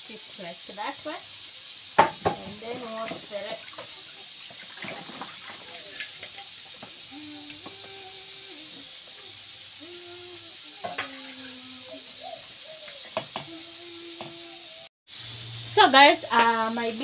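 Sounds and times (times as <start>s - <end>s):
beans boiling in pot: 0.0s - 17.0s
gas cooker hissing: 0.0s - 17.0s.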